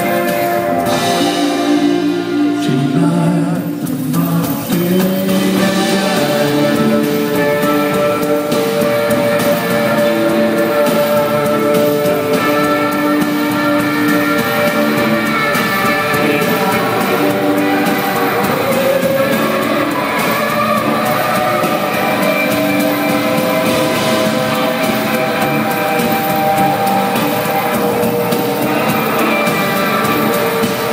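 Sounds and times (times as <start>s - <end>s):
electric guitar: 0.0s - 30.9s
live rock band playing: 0.0s - 30.9s.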